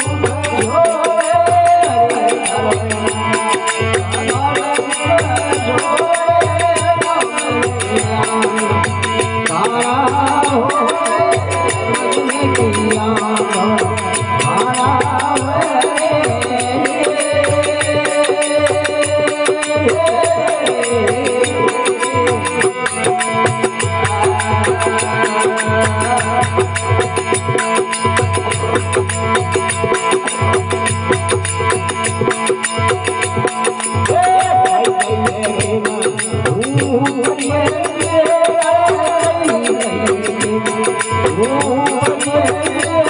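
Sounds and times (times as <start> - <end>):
steady drum beat: 0.0 - 43.0.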